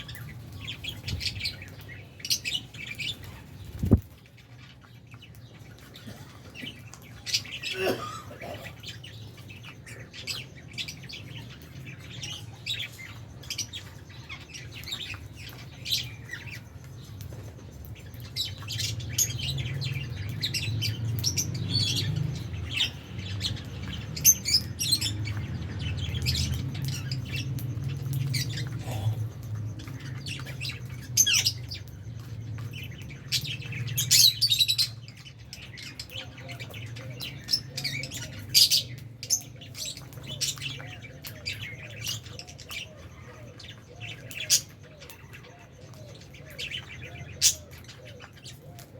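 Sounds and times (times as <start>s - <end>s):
lovebirds chirping and squawking: 0.0s - 48.9s.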